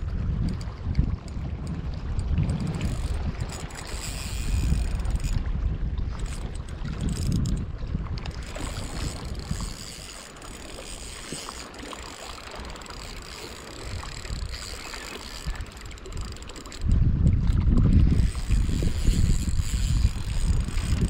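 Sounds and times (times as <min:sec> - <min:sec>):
wind buffeting microphone: 0:00.0 - 0:21.0
fishing reel cranking: 0:00.3 - 0:21.0.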